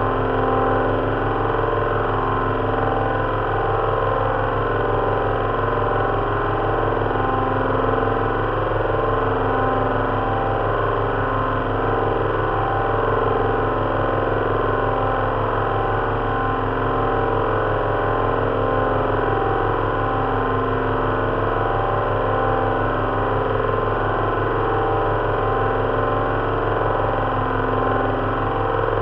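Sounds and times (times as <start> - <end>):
simulated aircraft engine drone: 0.0 - 29.0.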